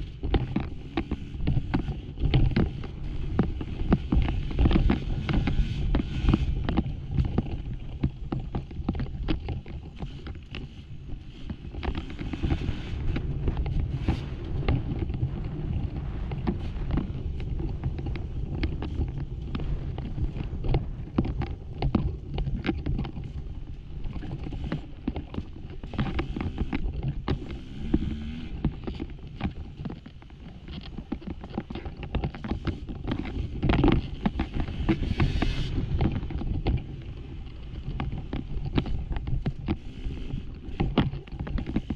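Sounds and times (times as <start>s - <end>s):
dirt bike engine under load: 0.0s - 41.9s
rocks knocking against bike: 0.0s - 41.9s.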